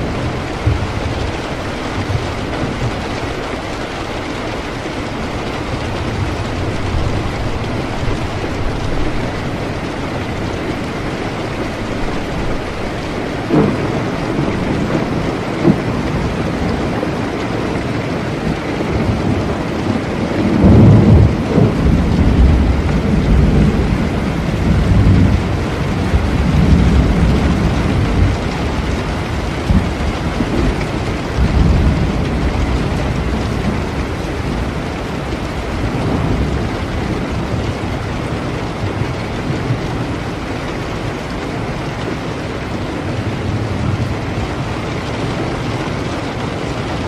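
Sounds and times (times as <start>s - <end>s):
long low thunder rumble: 0.0s - 41.1s
steady rain: 0.0s - 47.0s.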